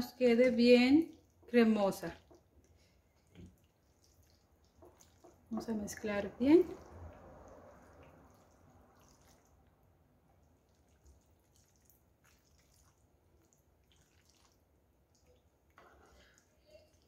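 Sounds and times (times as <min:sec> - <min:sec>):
spatula stirring pasta in pan: 0:00.6 - 0:17.0.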